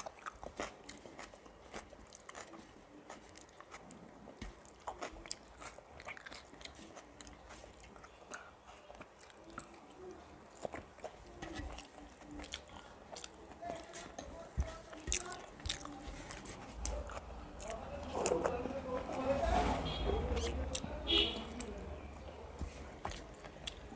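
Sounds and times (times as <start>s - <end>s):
person chewing food: 0.0s - 19.5s, 20.1s - 23.9s.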